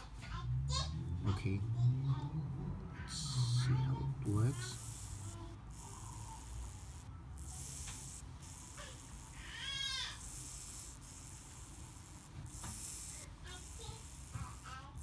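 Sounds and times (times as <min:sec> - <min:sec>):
clockwork escapement buzzing: 0:02.1 - 0:15.0.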